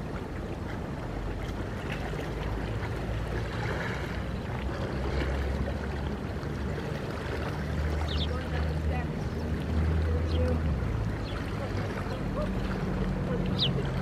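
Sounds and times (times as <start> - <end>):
low steady rumble: 0.0 - 14.0
small waves lapping on rocks: 0.0 - 14.0.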